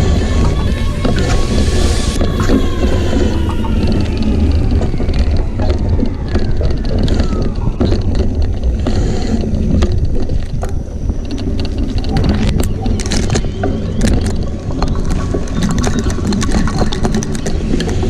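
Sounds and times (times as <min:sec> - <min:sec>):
wind and tyres rumbling: 0:00.0 - 0:18.0.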